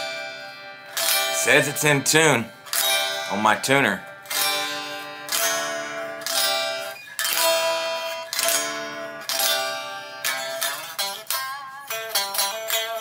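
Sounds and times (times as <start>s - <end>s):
unplugged electric guitar chords strummed: 0.0s - 13.0s.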